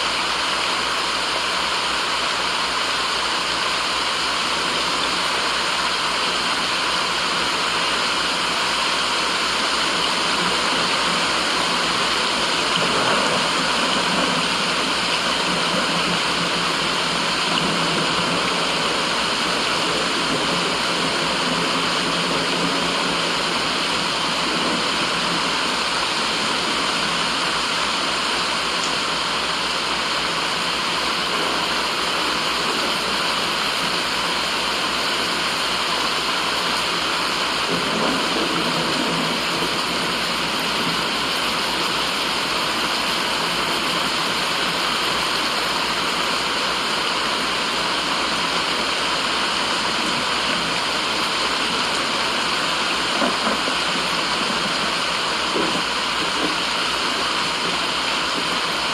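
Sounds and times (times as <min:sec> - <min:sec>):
rushing water noise: 0:00.0 - 0:58.9.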